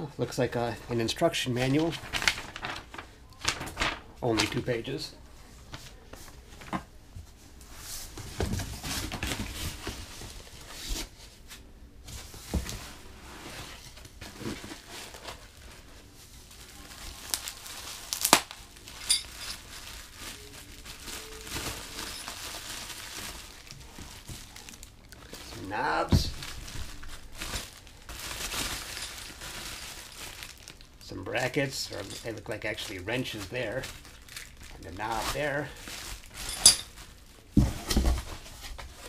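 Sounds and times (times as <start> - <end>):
cardboard and bubble wrap rustling: 0.8 - 39.0.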